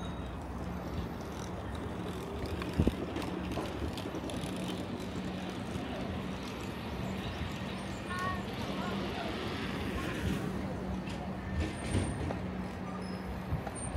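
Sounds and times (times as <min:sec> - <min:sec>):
bicycle rolling on street: 0:00.0 - 0:13.9.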